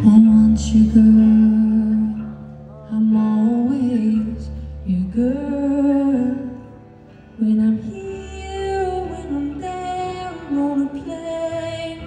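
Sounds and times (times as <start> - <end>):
acoustic guitar: 0.0 - 12.0
violin melody: 0.0 - 12.0.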